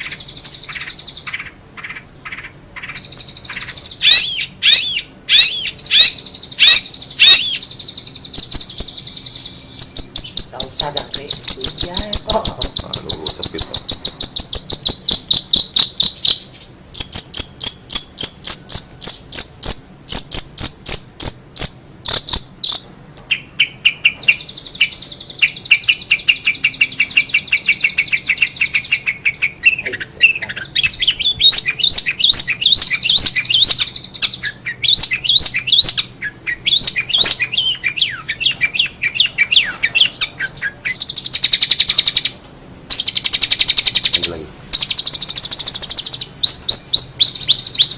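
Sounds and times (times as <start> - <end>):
bird singing varied song: 0.0 - 47.9.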